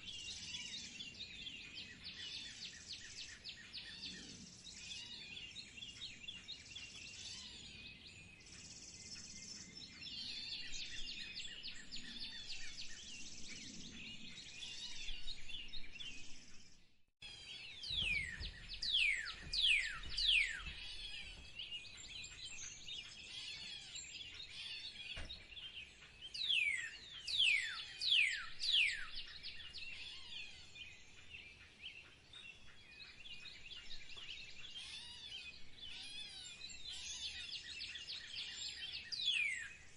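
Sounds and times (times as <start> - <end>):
songbirds chirping chorus: 0.0 - 39.9.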